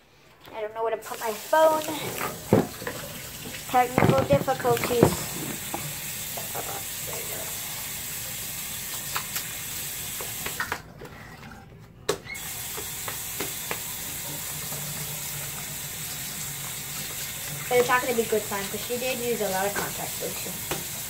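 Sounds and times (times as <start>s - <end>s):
tap running: 1.1s - 7.9s, 8.8s - 10.8s, 12.1s - 21.0s.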